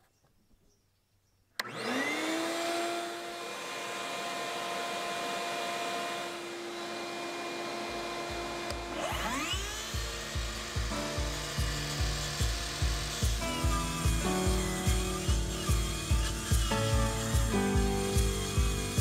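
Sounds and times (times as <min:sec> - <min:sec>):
shop vacuum motor running: 0:01.6 - 0:19.0
table saw motor whining up: 0:01.6 - 0:19.0.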